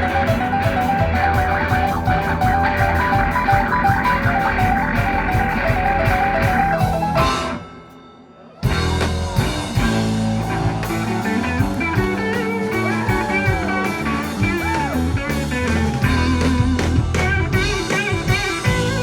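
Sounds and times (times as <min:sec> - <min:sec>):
live rock band playing: 0:00.0 - 0:07.9, 0:08.6 - 0:19.0
bent electric guitar notes: 0:00.0 - 0:19.0.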